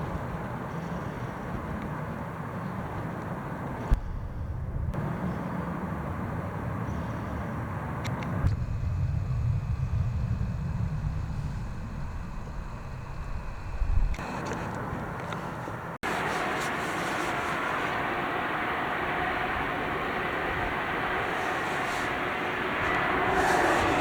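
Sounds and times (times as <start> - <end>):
wind buffeting microphone: 0.0 - 6.8, 8.1 - 24.0.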